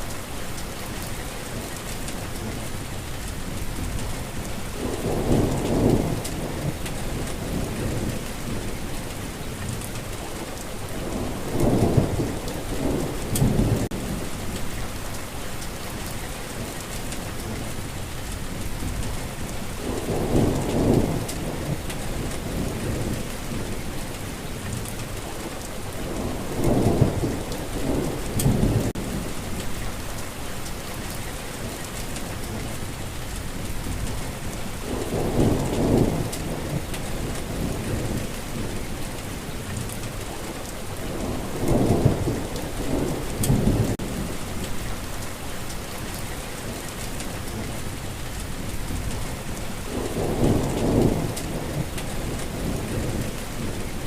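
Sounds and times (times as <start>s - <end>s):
rain hissing: 0.0s - 54.0s
thunder rumbling: 1.8s - 16.1s, 16.9s - 54.0s.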